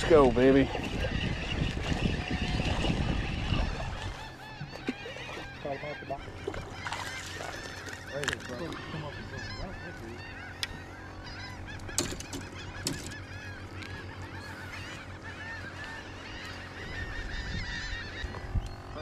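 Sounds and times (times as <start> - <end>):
seagulls calling: 0.0 - 19.0.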